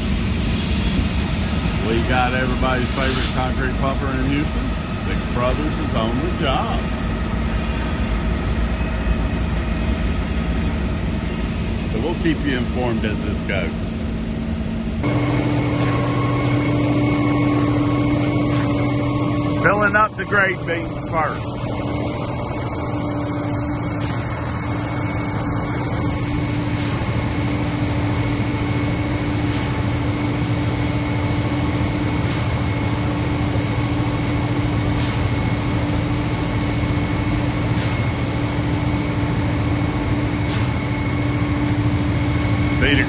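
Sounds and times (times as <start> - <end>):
concrete pump truck running: 0.0 - 43.0.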